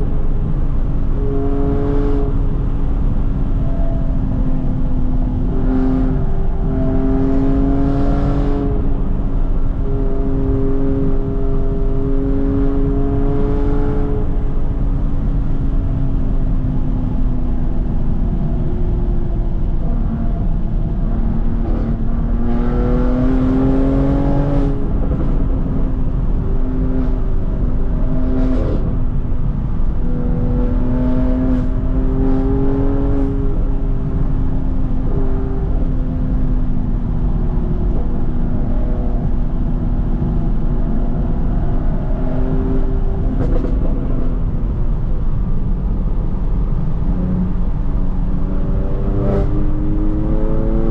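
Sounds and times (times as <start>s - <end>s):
car engine and exhaust revving: 0.0s - 50.9s.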